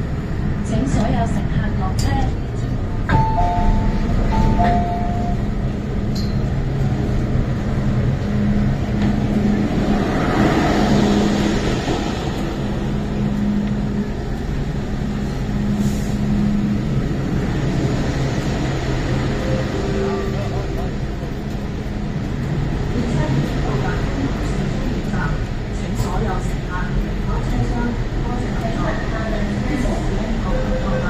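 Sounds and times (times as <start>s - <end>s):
passengers walking: 0.0s - 31.0s
train low hum: 0.0s - 31.0s.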